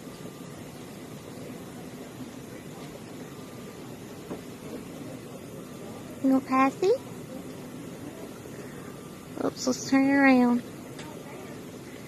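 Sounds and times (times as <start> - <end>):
room tone hiss: 0.0 - 12.0.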